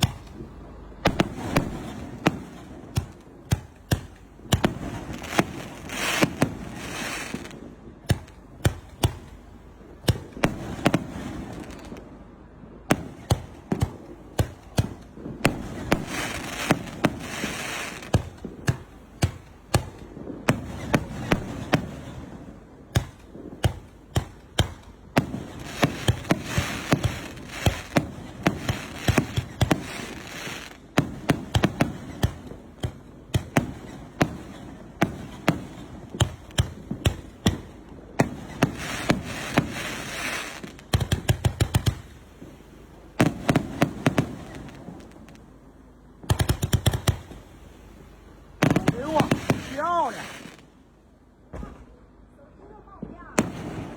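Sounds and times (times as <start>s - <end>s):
fireworks launch reports: 0.0s - 45.4s, 48.6s - 50.7s, 51.5s - 53.9s
fireworks crackling: 0.0s - 51.0s, 52.7s - 53.9s.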